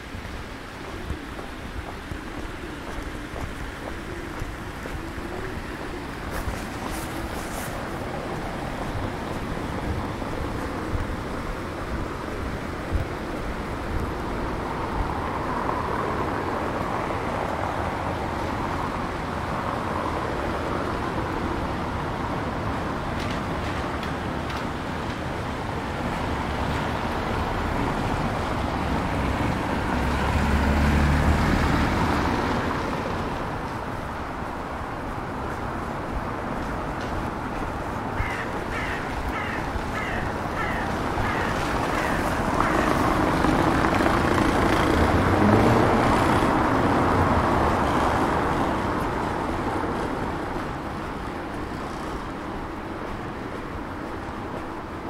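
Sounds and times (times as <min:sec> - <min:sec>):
cars passing on wet street: 0:00.0 - 0:55.0.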